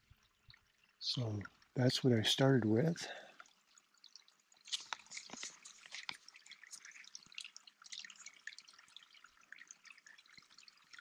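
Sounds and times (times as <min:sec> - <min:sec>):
water dripping: 0:00.0 - 0:11.0.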